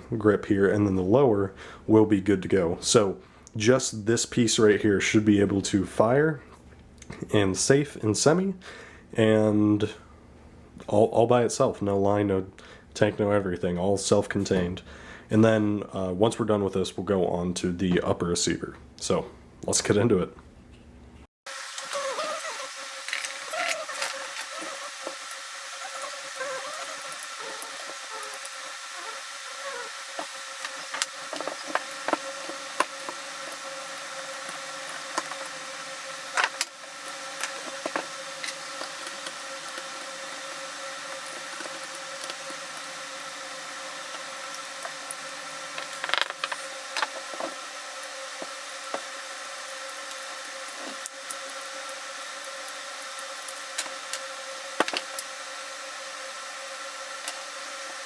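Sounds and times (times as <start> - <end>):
steady background hum: 0.0 - 58.0.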